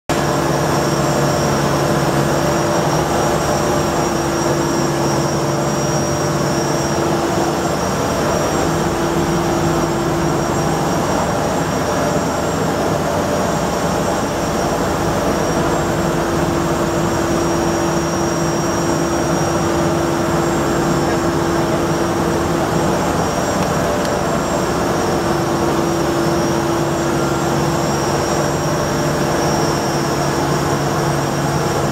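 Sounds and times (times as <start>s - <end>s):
flour mill droning: 0.1s - 31.9s.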